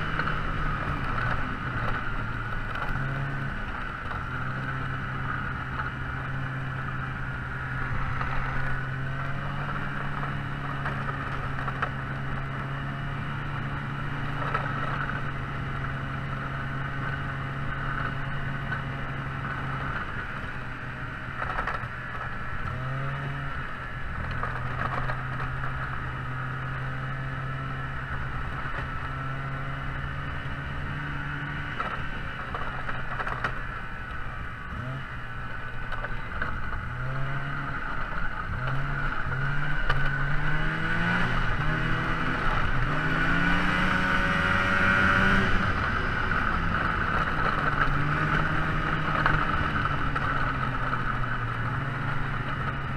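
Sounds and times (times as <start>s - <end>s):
engine humming steadily: 0.0s - 52.9s.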